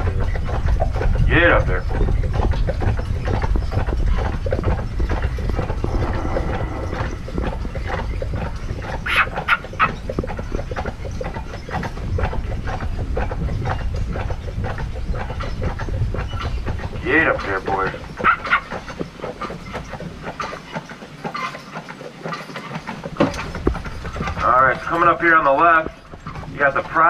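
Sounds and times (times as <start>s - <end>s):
carriage rolling rumble: 0.0s - 27.0s
hooves clopping on road: 0.0s - 27.0s.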